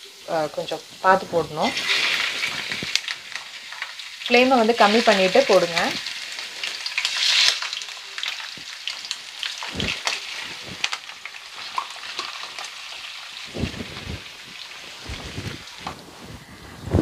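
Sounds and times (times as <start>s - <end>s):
prawns sizzling in hot oil: 0.0s - 16.6s.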